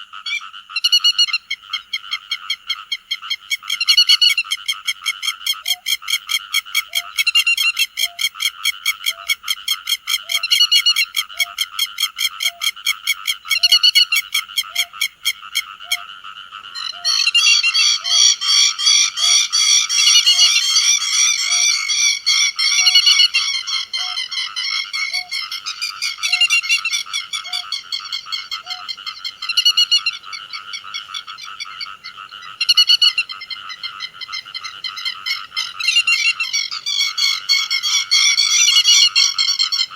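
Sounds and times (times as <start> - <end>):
birds chattering: 0.0 - 39.9
flock of birds calling shrilly: 0.0 - 39.9.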